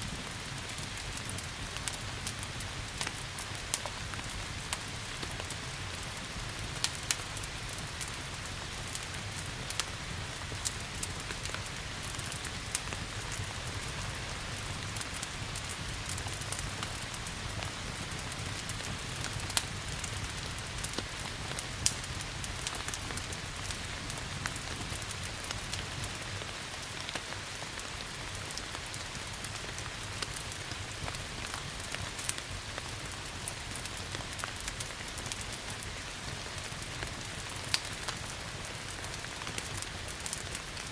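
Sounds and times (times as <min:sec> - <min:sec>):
rain hiss: 0:00.0 - 0:40.9
wood fire crackling and popping: 0:00.0 - 0:40.9.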